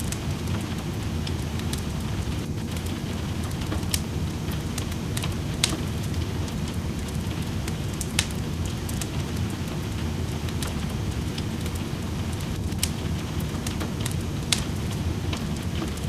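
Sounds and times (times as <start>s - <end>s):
rain rumble: 0.0s - 16.0s
sharp fire pops: 0.0s - 16.0s
wood fire crackling: 0.0s - 16.0s.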